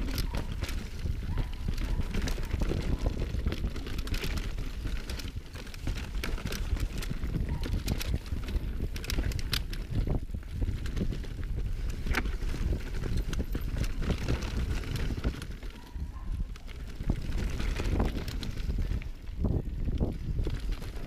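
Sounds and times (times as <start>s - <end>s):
bike clattering and rattling: 0.0s - 21.0s
wind on microphone: 0.0s - 21.0s.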